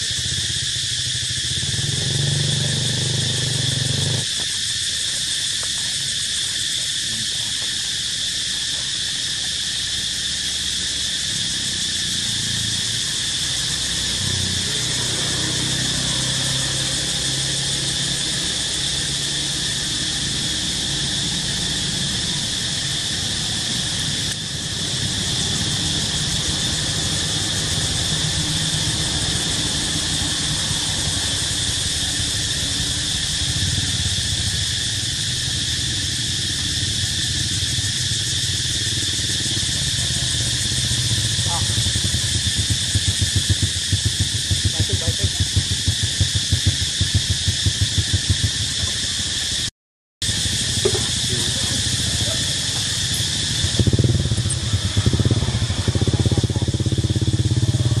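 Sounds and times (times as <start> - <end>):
shrill insect drone: 0.0 - 58.0.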